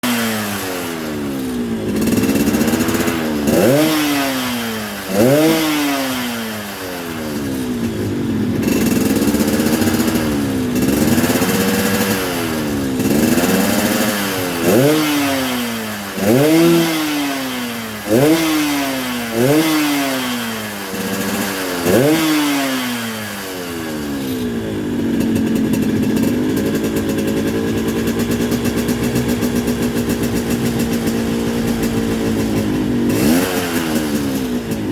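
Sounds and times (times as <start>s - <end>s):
two-stroke engine revving: 0.0s - 34.9s.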